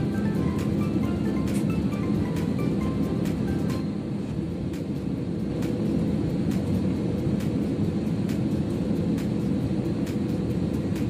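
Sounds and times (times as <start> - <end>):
jet engines and airflow rumble: 0.0 - 11.0.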